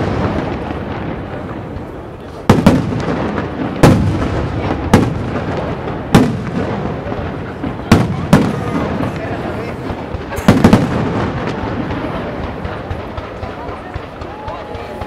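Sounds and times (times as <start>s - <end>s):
fireworks crackling: 0.0s - 15.0s
rumbling echo: 0.0s - 15.0s.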